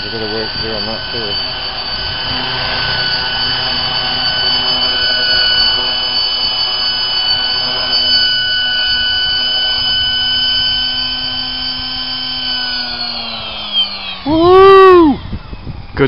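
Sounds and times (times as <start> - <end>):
model helicopter rotor whine: 0.0 - 16.0
rotor blades rushing: 0.0 - 16.0.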